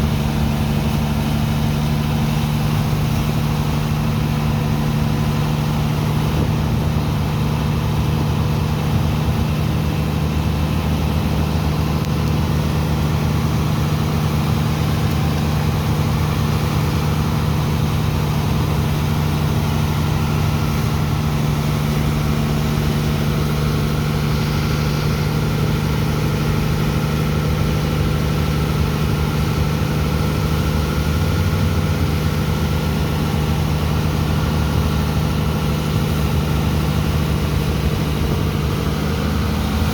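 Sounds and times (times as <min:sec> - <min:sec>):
pump engine droning: 0:00.0 - 0:39.9.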